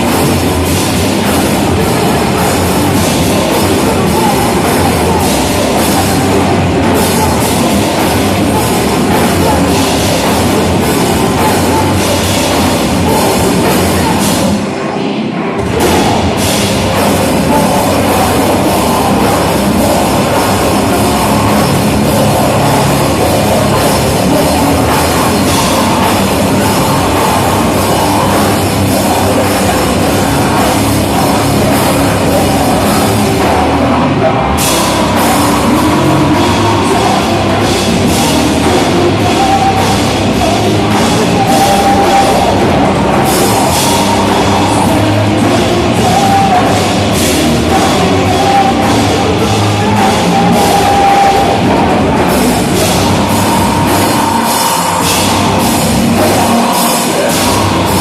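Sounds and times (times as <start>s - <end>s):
cymbals crashing: 0.0s - 14.8s, 15.6s - 58.0s
rock band playing live: 0.0s - 58.0s.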